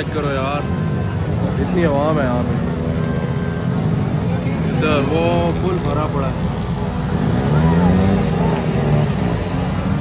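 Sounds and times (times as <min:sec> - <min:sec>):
large crowd hubbub: 0:00.0 - 0:10.0.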